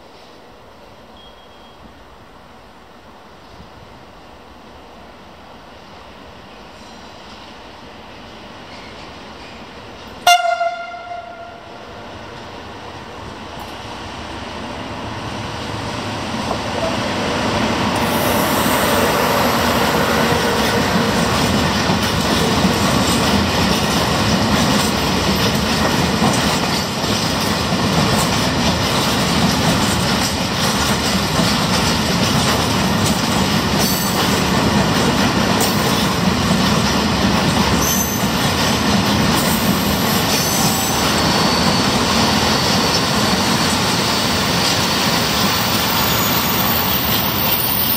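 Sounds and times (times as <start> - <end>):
freight train passing: 0.0 - 47.9.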